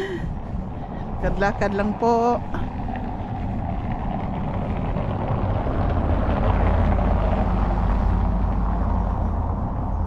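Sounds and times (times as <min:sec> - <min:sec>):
car driving on cobblestones: 0:00.0 - 0:10.0.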